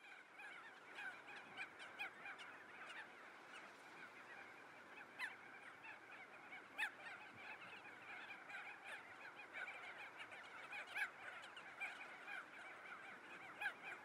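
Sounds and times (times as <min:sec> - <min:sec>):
flock of birds chirping: 0:00.0 - 0:14.0.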